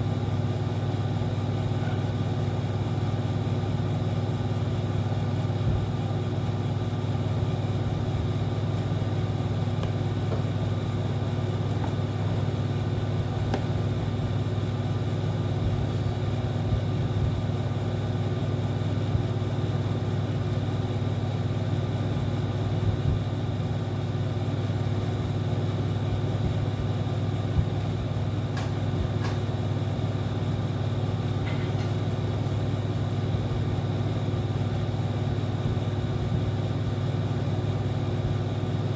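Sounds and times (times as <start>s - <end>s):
air conditioner humming: 0.0s - 38.9s.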